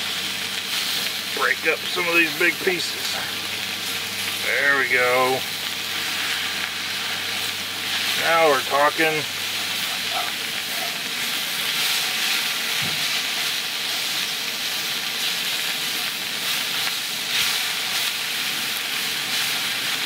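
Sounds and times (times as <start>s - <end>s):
food sizzling in a frying pan: 0.0s - 20.0s
utensil stirring in a pan: 1.9s - 20.0s.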